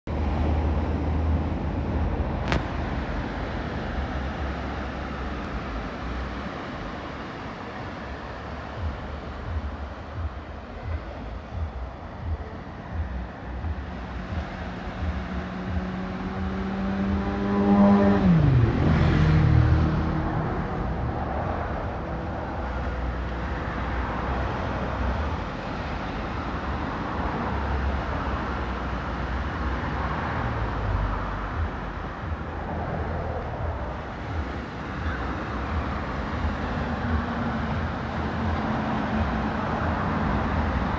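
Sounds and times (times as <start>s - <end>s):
vehicle passing by: 0.1s - 40.9s
wind rumble on microphone: 0.1s - 40.9s.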